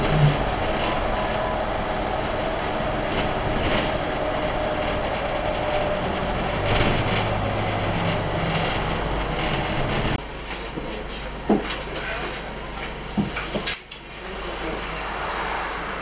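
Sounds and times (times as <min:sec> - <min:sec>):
bus body knocks and rattles: 0:00.0 - 0:13.9
bus engine and road rumble: 0:00.0 - 0:16.0.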